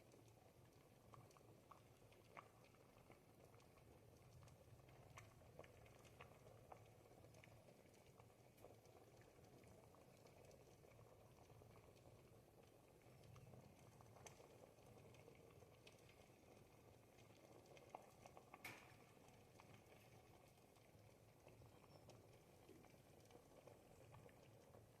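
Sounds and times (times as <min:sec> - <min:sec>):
soup bubbling in a pot: 0:00.0 - 0:25.0.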